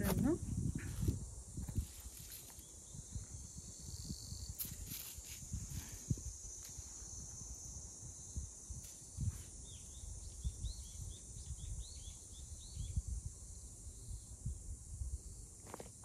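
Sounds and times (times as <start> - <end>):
steady high hiss: 1.0 - 16.0.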